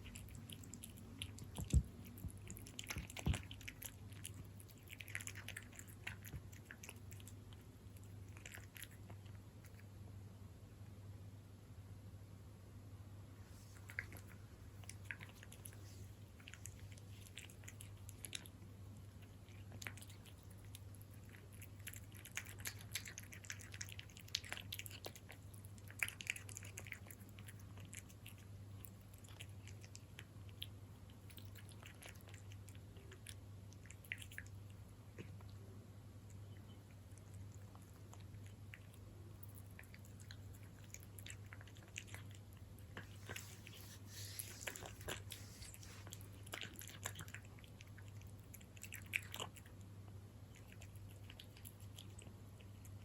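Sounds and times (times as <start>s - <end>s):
cat chewing wet food: 0.0s - 10.2s, 13.4s - 53.0s
steady low hum: 0.0s - 53.0s.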